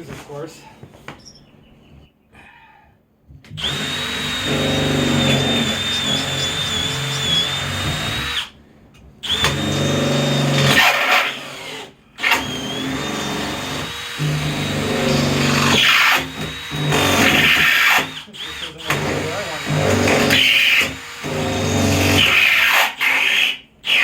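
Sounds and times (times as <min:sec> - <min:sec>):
power drill driving screws: 0:03.6 - 0:08.6, 0:09.2 - 0:24.0.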